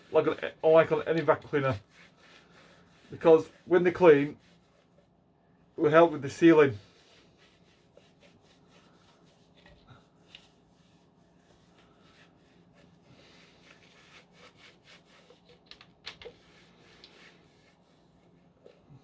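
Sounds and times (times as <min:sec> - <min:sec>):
cloth rubbing plastic: 0:00.0 - 0:05.2, 0:05.8 - 0:19.0.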